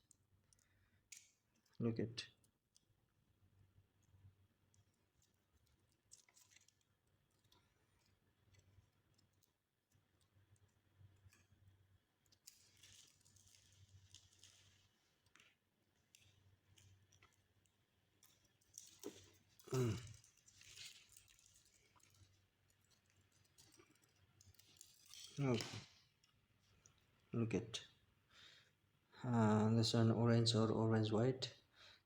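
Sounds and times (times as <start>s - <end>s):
wires clicking and rustling: 0.0s - 28.1s.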